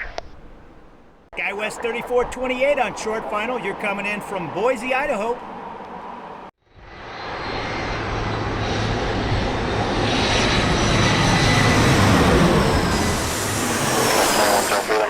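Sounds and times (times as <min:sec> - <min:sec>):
jet airliner engines roaring: 0:01.4 - 0:15.0.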